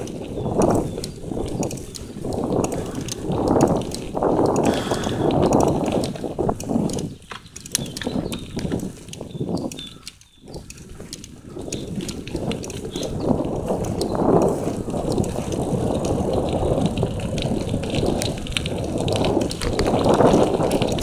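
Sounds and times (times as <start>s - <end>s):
bicycle tyres rolling on dirt: 0.0s - 21.0s
bike rattling and clicking: 0.0s - 21.0s.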